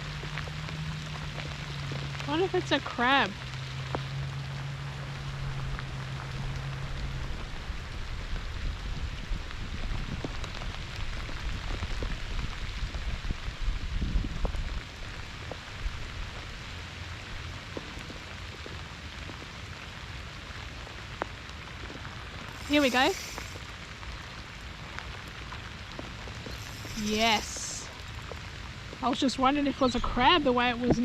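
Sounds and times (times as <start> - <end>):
low rumbling on microphone: 0.0 - 31.0
pouring rain: 0.0 - 31.0.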